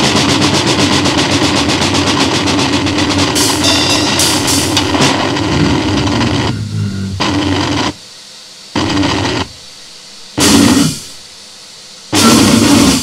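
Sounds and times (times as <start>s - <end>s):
distorted noise blasts: 0.0s - 8.1s, 8.7s - 9.7s, 10.3s - 11.3s, 12.1s - 13.0s.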